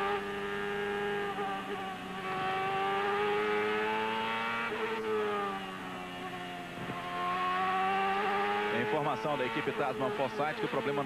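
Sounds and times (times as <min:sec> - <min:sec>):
racing engine at high revs: 0:00.0 - 0:11.0.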